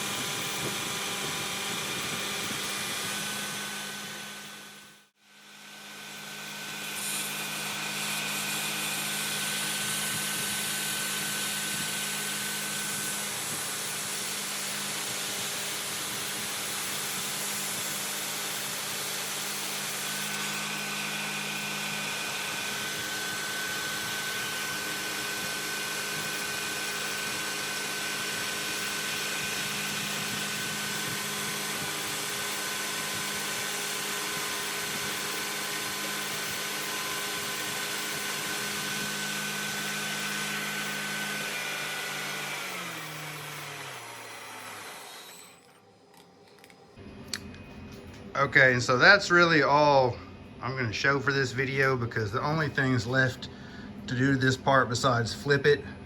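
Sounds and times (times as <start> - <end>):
milling machine spindle running: 0.0 - 47.5
steady machine whine: 0.0 - 56.0.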